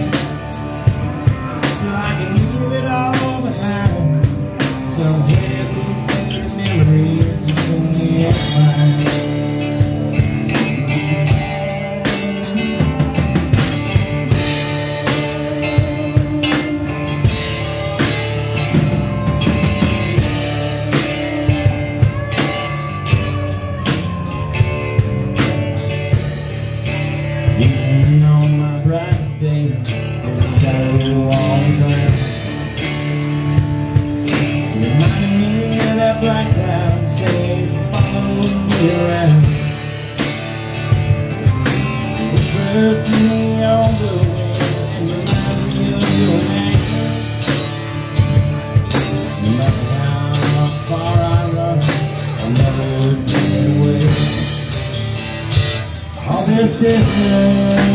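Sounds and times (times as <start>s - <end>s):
drums keeping a steady beat: 0.0s - 57.9s
live band playing: 0.0s - 57.9s.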